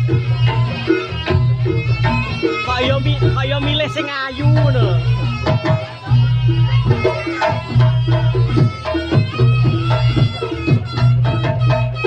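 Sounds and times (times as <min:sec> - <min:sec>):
ringing pitched percussion: 0:00.0 - 0:12.0.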